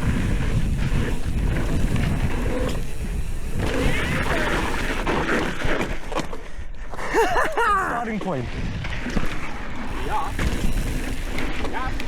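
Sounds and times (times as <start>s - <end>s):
bike tyres rolling on dirt: 0.0s - 12.0s.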